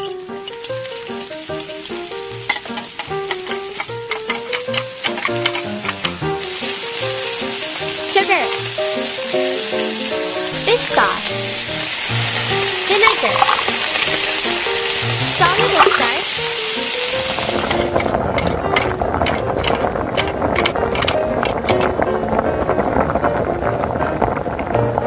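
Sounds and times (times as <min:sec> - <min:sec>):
plucky background melody: 0:00.0 - 0:23.7
chili and garlic sizzling in oil: 0:00.0 - 0:25.0.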